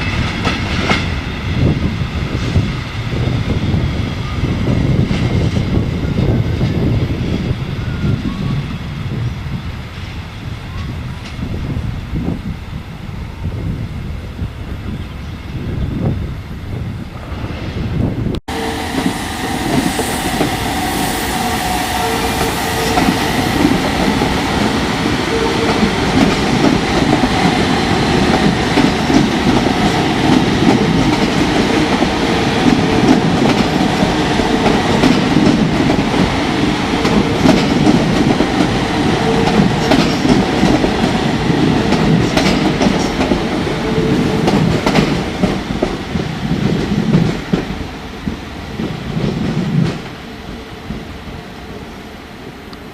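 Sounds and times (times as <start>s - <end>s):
train rolling rumble: 0.0s - 52.0s.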